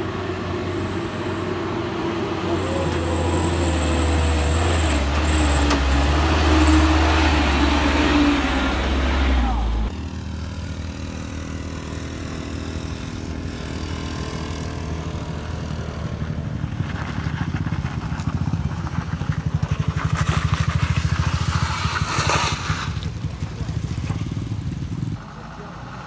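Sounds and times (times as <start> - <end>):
car engine pulsing rumble: 0.0 - 26.0
motorbike engine: 0.0 - 26.0.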